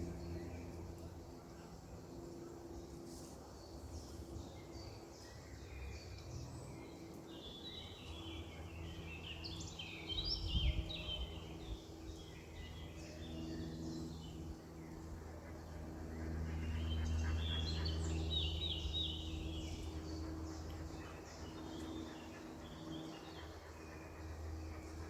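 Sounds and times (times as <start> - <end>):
steady low hum: 0.0 - 25.0
songbirds chirping and singing: 3.8 - 25.0.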